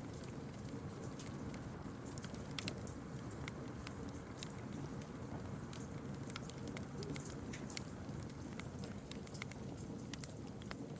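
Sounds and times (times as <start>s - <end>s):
wood fire crackling: 0.0s - 10.9s.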